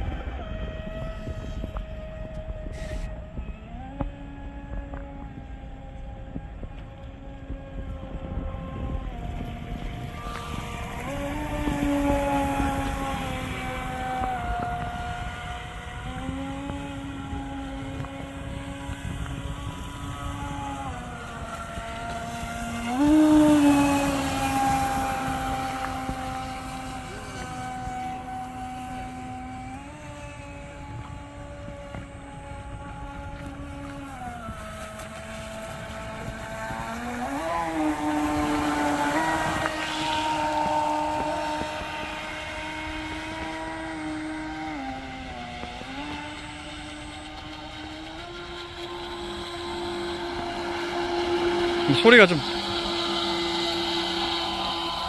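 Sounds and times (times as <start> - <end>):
model speedboat motor buzzing: 0.0 - 55.0.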